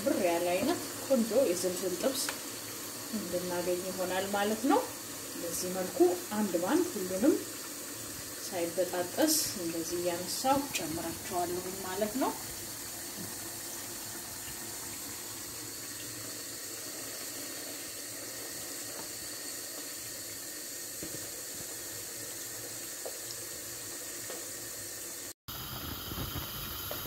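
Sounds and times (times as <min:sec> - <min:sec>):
meat deep-frying in oil: 0:00.0 - 0:27.0.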